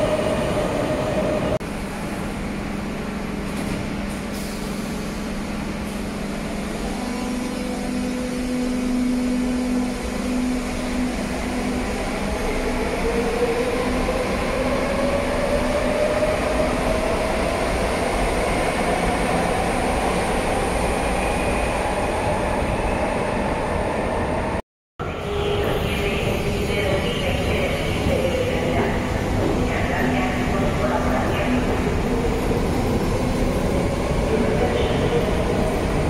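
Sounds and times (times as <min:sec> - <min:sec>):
train hum: 0:00.0 - 0:36.0.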